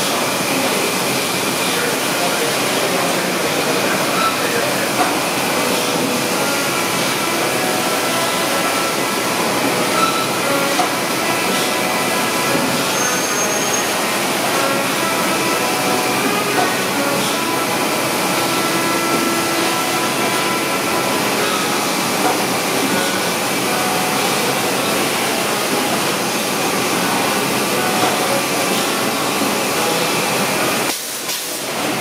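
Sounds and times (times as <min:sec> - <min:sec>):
machinery noise with hiss: 0:00.0 - 0:32.0.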